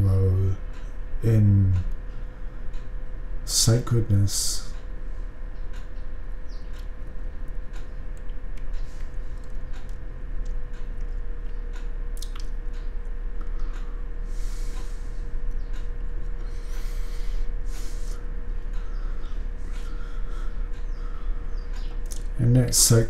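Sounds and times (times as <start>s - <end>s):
faint hum: 0.0s - 23.0s.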